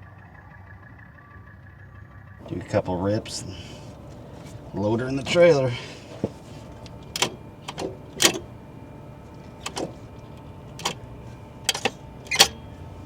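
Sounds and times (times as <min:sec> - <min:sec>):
sharp clicks and knocks: 0:02.4 - 0:13.0
steady low hum: 0:02.4 - 0:13.0.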